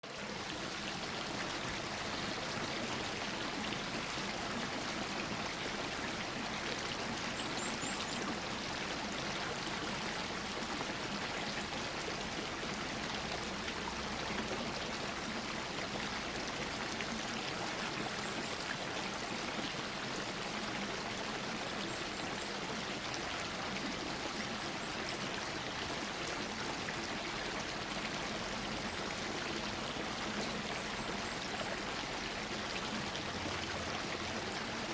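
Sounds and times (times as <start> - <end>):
stream water trickling: 0.0 - 34.9.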